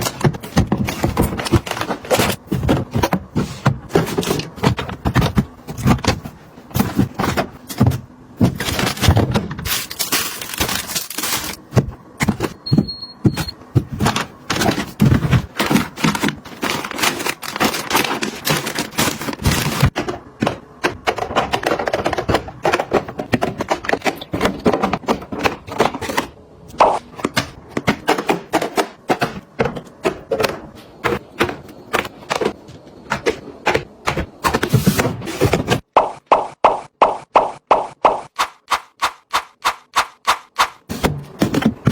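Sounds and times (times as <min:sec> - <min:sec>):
hard items clicking and thunking: 0:00.0 - 0:35.9, 0:38.3 - 0:41.9.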